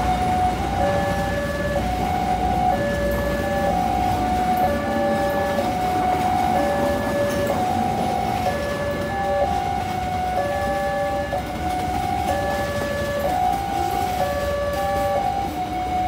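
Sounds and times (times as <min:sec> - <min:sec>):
level crossing two-tone alarm: 0:00.0 - 0:16.0
train rumbling: 0:00.0 - 0:16.0.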